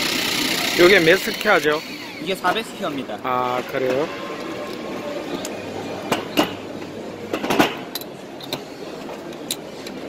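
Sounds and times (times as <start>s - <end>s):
background hubbub: 0.0s - 10.0s.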